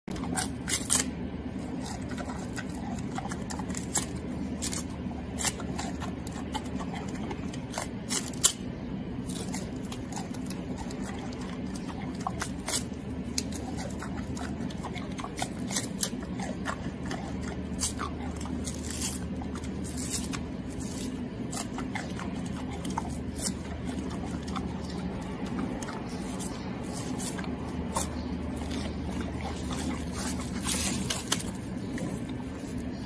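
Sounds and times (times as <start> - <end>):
panda chewing bamboo: 0.1 - 33.0.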